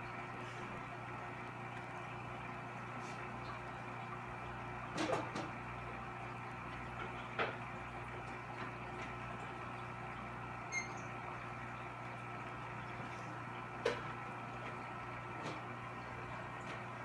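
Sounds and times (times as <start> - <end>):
aquarium equipment hum: 0.0 - 17.0.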